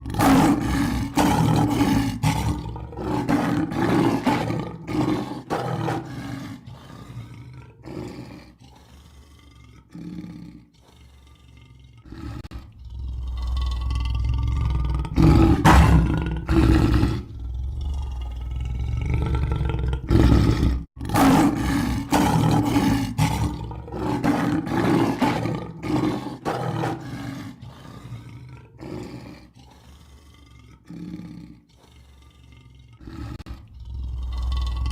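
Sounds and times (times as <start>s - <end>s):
lion roaring and grunting: 0.0s - 34.9s.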